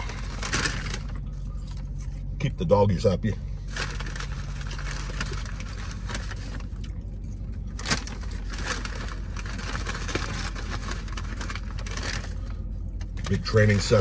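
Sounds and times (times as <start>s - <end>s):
sharp paper crackle: 0.0s - 2.0s, 3.6s - 6.9s, 7.6s - 13.8s
paper bag crinkling: 0.0s - 2.1s, 3.6s - 13.8s.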